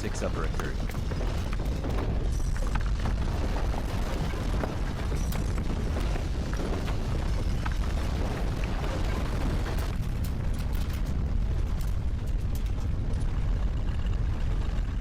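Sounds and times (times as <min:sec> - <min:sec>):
crackles and rattles: 0:00.0 - 0:15.0
deep earthquake rumble: 0:00.0 - 0:15.0.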